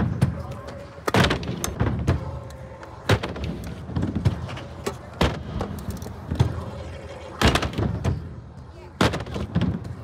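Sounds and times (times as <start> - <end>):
scooter wheels rumbling on concrete: 0.0 - 8.4.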